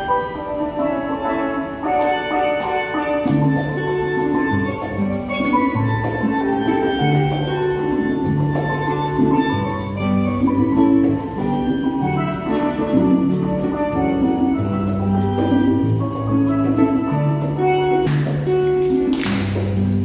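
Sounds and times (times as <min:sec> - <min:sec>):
acoustic guitar: 0:00.0 - 0:20.0
conga drums: 0:00.0 - 0:20.0
steel pan melody: 0:00.0 - 0:20.0.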